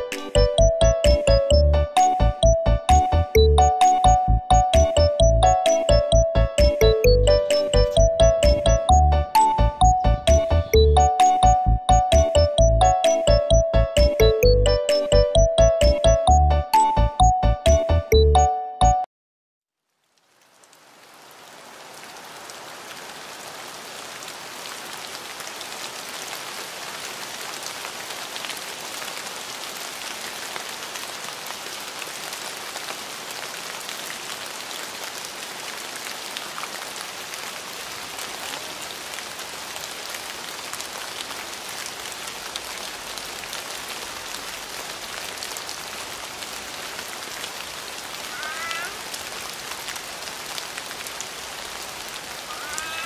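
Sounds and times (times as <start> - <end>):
steady rain patter: 0.0 - 18.1, 19.7 - 53.0.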